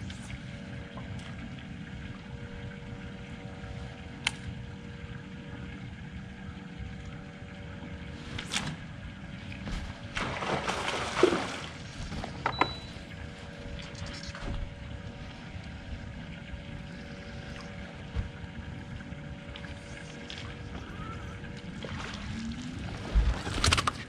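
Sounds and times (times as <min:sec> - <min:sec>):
electric trolling motor humming: 0:00.0 - 0:24.0.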